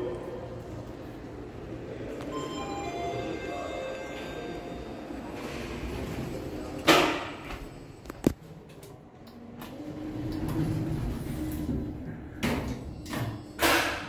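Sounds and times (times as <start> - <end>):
elevator doors closing: 0.0 - 14.0.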